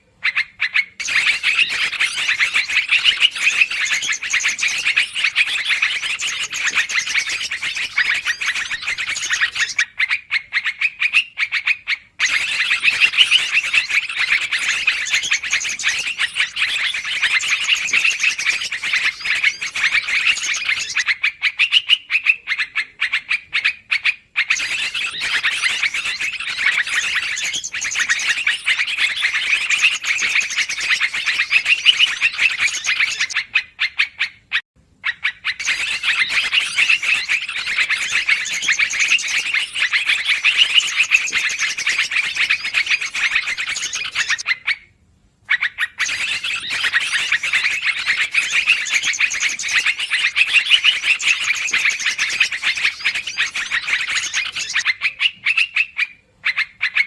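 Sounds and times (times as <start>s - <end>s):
birds chattering rapidly: 0.0s - 57.0s.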